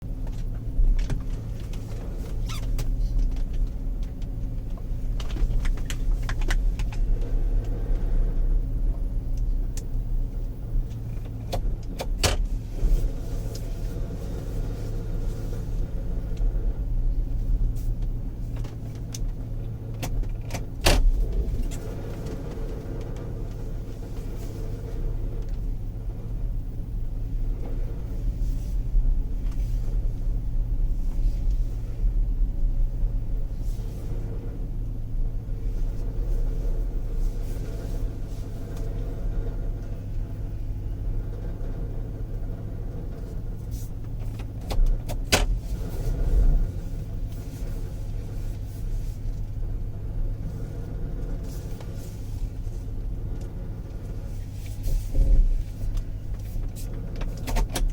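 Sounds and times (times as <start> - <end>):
car engine low rumble: 0.0 - 57.9.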